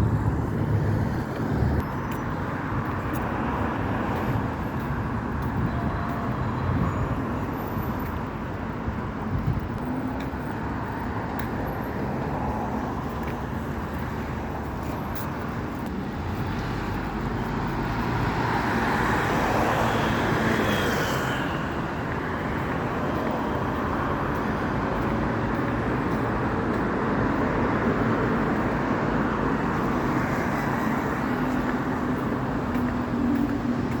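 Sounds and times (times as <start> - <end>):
passing vehicles hum: 0.0 - 34.0.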